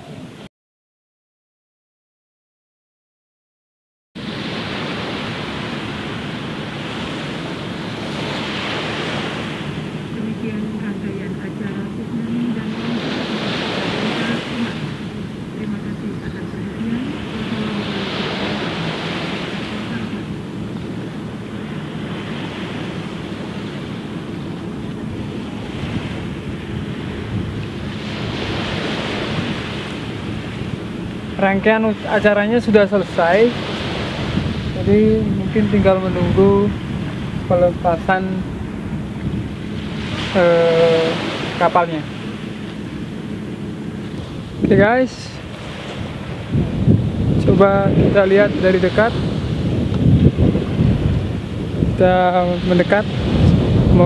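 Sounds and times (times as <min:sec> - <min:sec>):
small waves lapping on sand: 0:04.2 - 0:54.0
wind rushing: 0:04.2 - 0:54.0.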